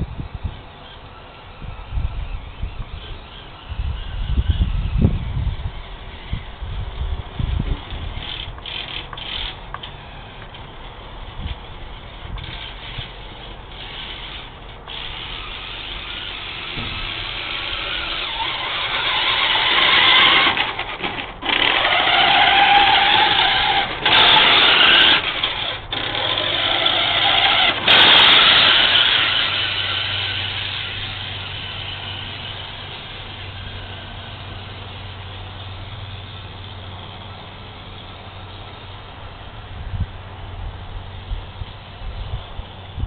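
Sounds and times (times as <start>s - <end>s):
toy truck electric motors whining: 0.1s - 39.6s.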